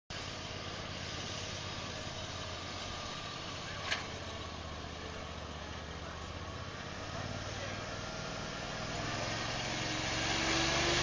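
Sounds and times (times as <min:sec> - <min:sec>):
engine running steadily: 0:00.1 - 0:11.0.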